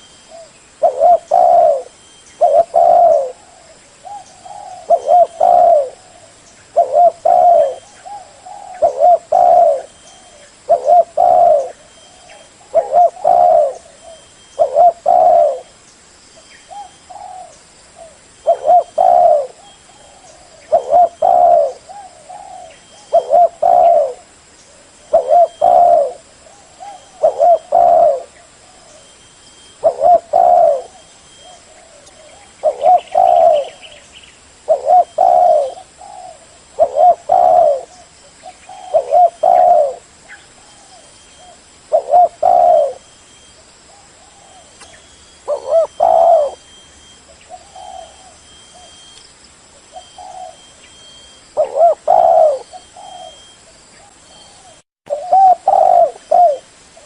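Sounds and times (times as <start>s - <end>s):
dove cooing: 0.0s - 15.8s, 16.7s - 34.0s, 34.6s - 49.1s, 49.8s - 57.0s.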